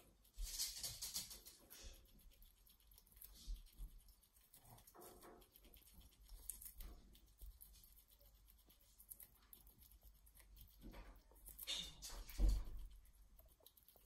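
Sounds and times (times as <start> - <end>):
squirrel nibbling lettuce leaf: 0.0 - 14.0.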